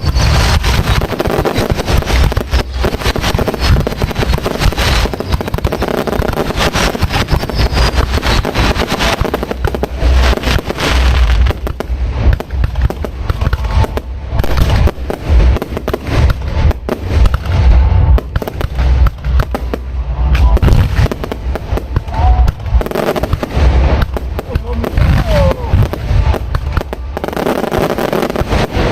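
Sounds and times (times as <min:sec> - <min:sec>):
fireworks booming and crackling: 0:00.0 - 0:28.9.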